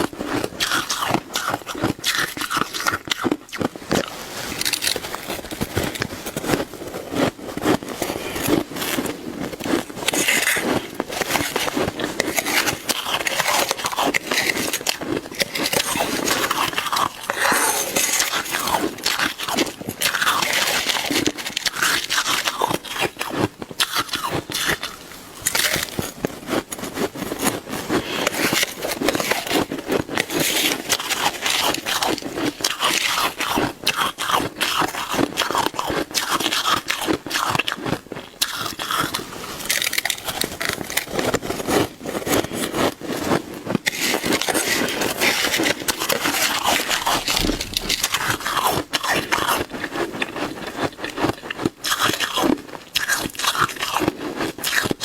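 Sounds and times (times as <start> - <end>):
chewing shaved ice: 0.0 - 55.0.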